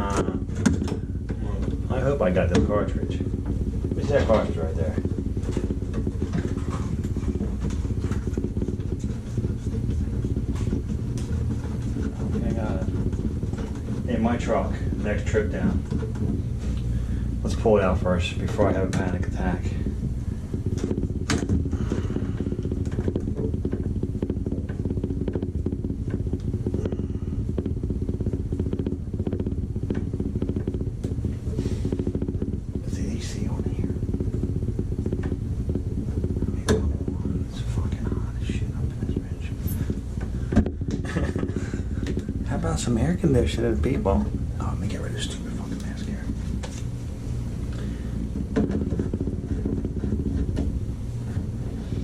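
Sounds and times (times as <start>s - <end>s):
pulsing engine drone: 0.0s - 52.0s.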